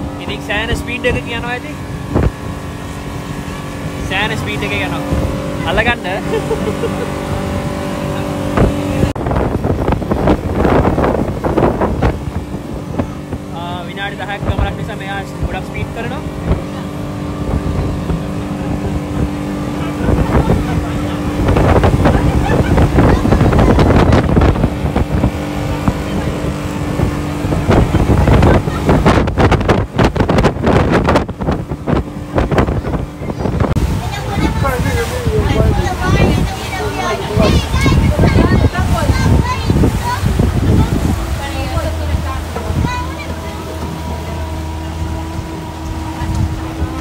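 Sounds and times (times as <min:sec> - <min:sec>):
motorboat engine drone: 0:00.0 - 0:47.0
water rushing: 0:00.0 - 0:47.0
wind buffeting microphone: 0:00.0 - 0:47.0.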